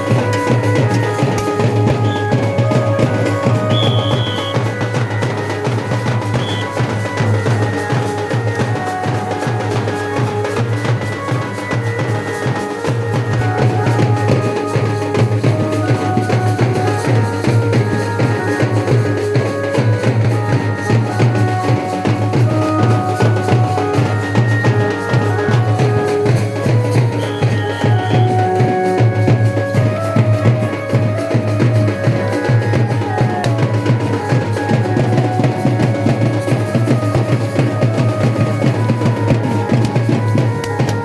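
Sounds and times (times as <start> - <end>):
melody of held notes: 0.0 - 41.0
rhythmic drumming: 0.0 - 41.0.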